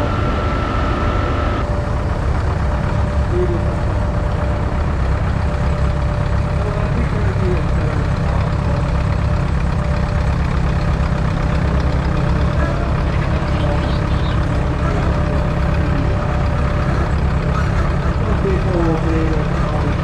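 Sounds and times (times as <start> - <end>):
tractor engine rumbling: 0.0 - 20.0.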